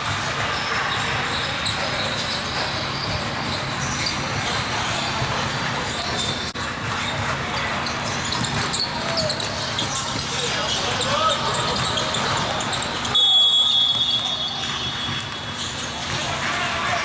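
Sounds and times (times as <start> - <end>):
basketballs bouncing on gym floor: 0.0 - 17.0
gymnasium background noise: 0.0 - 17.0.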